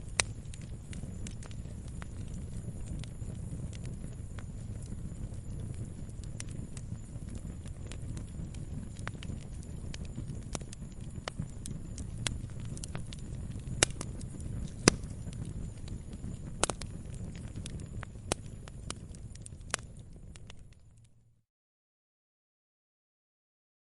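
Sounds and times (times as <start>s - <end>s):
burning wood crackling and popping: 0.0s - 21.2s
low rumble of flames: 0.0s - 21.4s.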